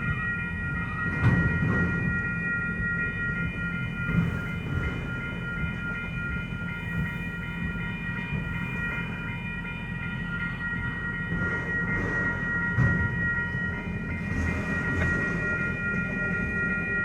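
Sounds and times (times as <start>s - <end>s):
freight train cars rolling: 0.0s - 17.0s
high-pitched ringing tones: 0.0s - 17.0s.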